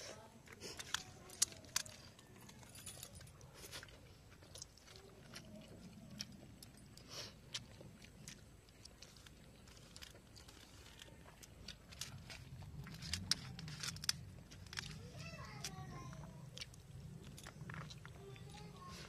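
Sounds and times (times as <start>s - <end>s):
soft chewing: 0.0s - 19.0s.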